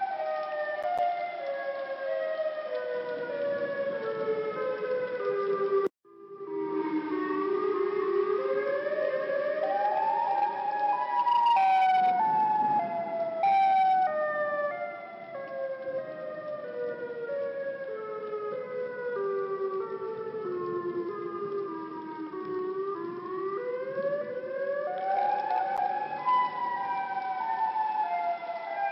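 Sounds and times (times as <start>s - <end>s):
siren uneven wail: 0.0s - 28.9s.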